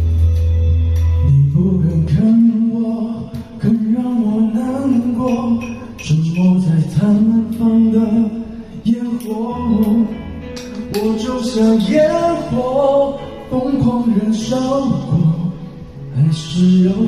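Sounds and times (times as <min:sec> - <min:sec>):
backing music: 0:00.0 - 0:17.0
man singing a pop ballad: 0:01.2 - 0:17.0.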